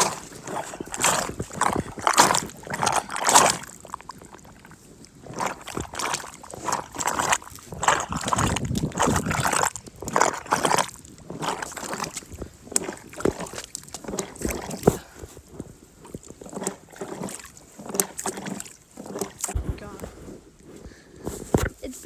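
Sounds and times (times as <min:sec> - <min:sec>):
shovel in wet mud: 0:00.0 - 0:04.1, 0:05.2 - 0:15.2, 0:16.1 - 0:20.0.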